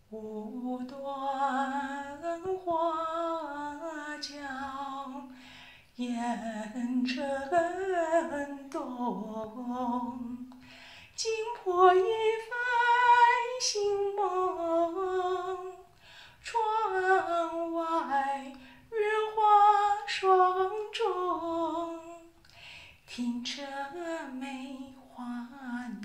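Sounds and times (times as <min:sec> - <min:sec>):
woman singing unaccompanied: 0:00.0 - 0:26.0.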